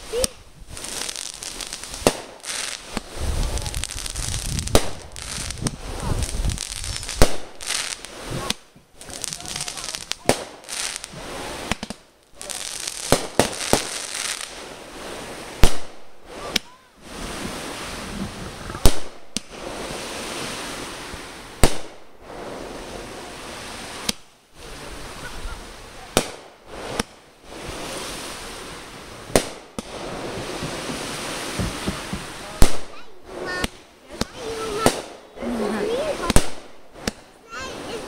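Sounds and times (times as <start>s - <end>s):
fireworks bangs: 0.0s - 38.0s
steady hiss: 0.0s - 38.0s.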